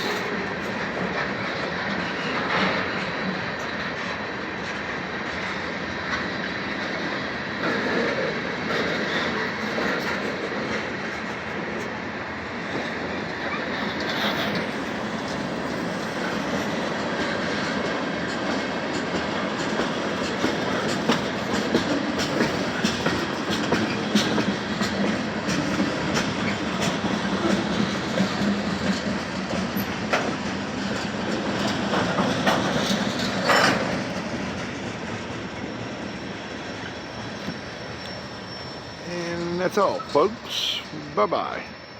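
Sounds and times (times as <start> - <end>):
wheels clacking over rail joints: 0.0 - 41.6
freight train cars rolling: 0.0 - 41.9
train wheel screech: 0.0 - 41.9.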